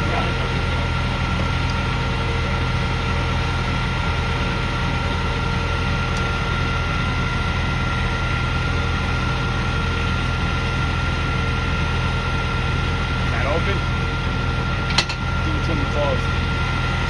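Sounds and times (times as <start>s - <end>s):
engine idling with whine: 0.0s - 17.0s.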